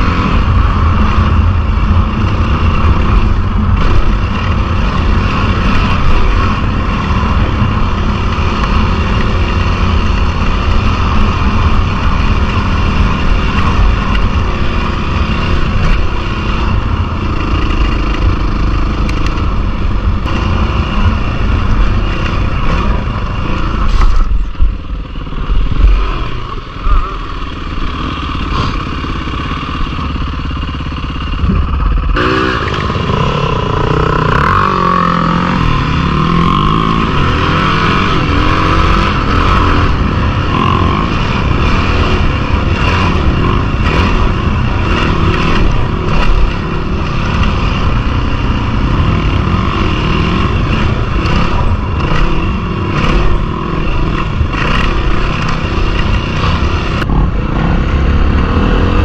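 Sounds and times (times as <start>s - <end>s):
dirt bike engine revving: 0.0s - 24.3s, 25.1s - 59.0s.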